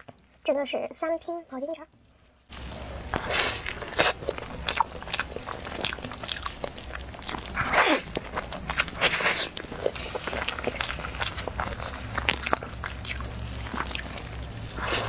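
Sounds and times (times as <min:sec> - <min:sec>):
chewing with crackles: 0:02.5 - 0:15.0.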